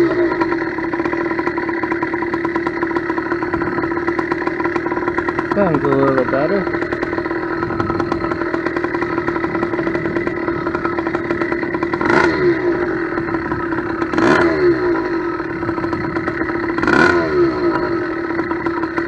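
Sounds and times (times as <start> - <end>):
two-stroke engine idling and revving: 0.0 - 19.0.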